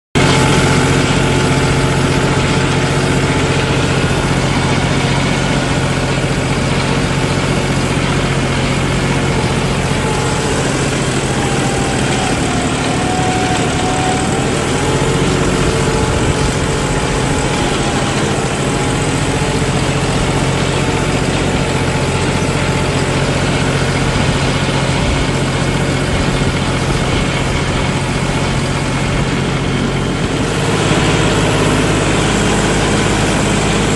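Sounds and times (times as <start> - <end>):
tractor diesel engine under load: 0.2 - 33.9.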